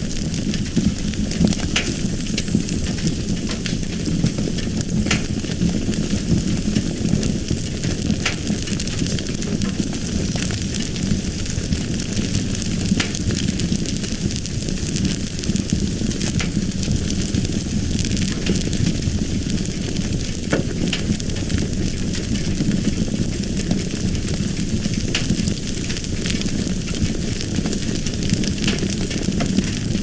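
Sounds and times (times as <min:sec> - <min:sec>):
fire burning with steady hiss: 0:00.0 - 0:30.0
sharp crackling pops: 0:00.1 - 0:30.0.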